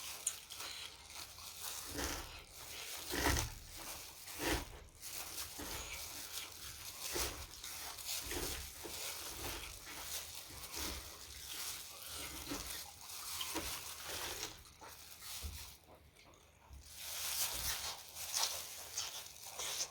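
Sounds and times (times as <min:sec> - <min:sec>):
wet chewing and smacking: 0:00.0 - 0:19.9.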